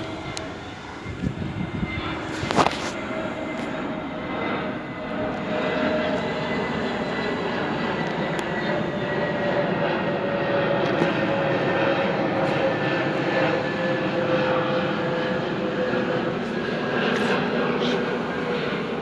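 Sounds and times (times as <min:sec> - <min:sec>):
faint whine dropping in pitch: 0:00.0 - 0:19.0
jet engine noise: 0:00.0 - 0:19.0.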